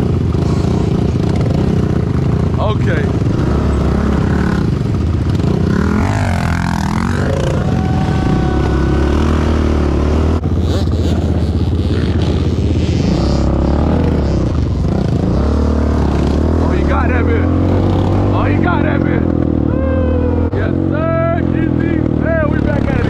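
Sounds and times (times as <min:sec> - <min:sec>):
two-stroke atv engine revving: 0:00.0 - 0:23.0.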